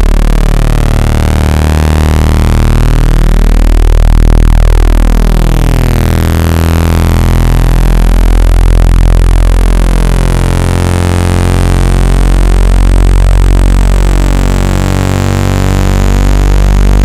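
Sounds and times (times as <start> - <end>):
deep synthesized buzz tone: 0.0 - 17.0.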